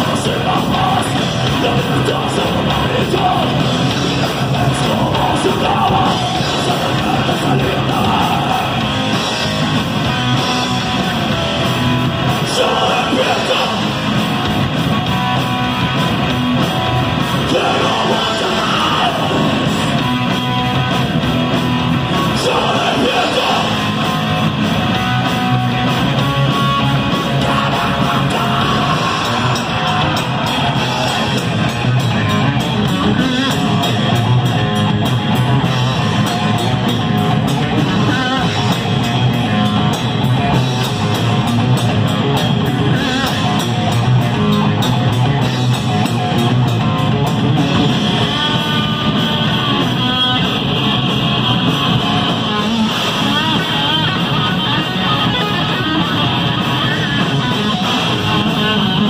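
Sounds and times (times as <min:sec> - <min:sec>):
heavy rock band playing live: 0:00.0 - 0:59.0.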